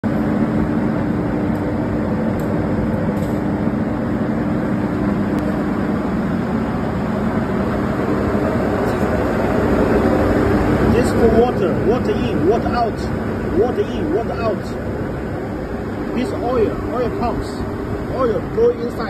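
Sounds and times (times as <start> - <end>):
machine drone with low hum: 0.0 - 19.0.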